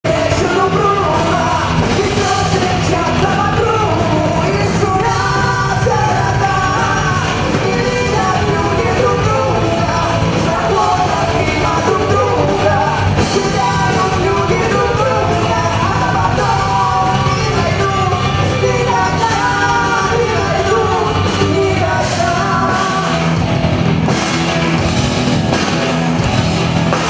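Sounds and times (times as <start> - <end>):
person singing and shouting: 0.0 - 23.4
loud rock music: 0.0 - 27.0.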